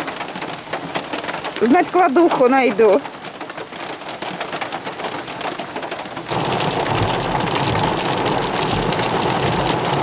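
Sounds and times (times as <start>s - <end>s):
rain and hail drumming on car: 0.0s - 10.0s
rain and hail on grass: 0.0s - 10.0s.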